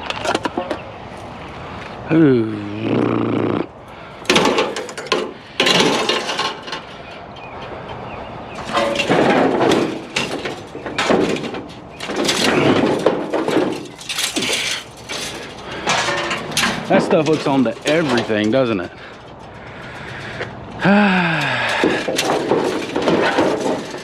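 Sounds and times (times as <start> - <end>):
scrap metal scraping and clattering: 4.0 - 7.9, 8.5 - 24.0.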